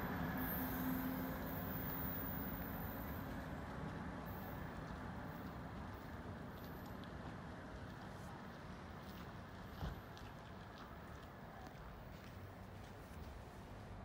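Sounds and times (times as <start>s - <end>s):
electric train rumbling: 0.0s - 12.7s.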